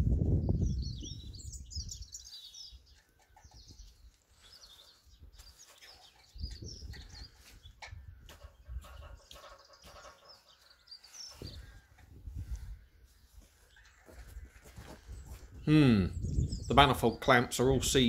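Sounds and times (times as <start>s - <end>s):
small birds chirping: 0.2s - 18.0s.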